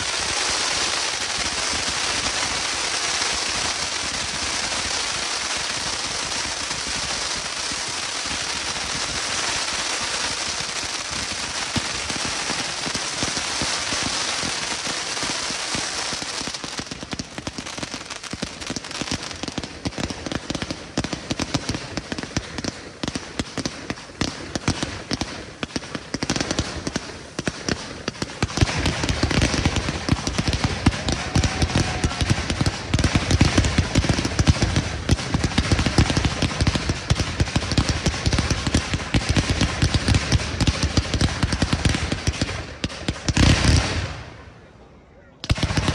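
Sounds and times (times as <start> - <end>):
firework pops and crackles: 0.0 - 44.4, 45.4 - 45.9
firework launches barrage: 0.0 - 44.6, 45.4 - 45.9
fireworks crackling hiss: 0.0 - 44.6, 45.4 - 45.9.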